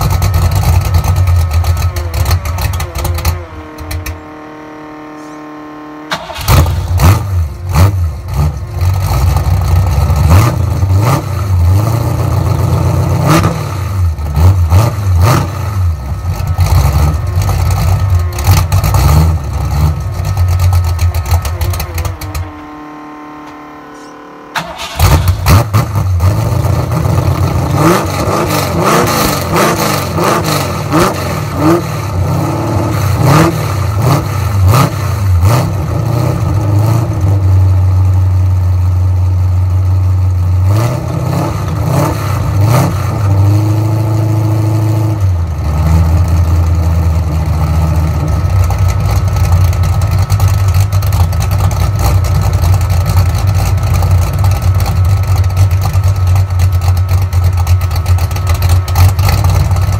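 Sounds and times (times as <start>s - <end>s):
car engine starting and revving: 0.0s - 59.9s.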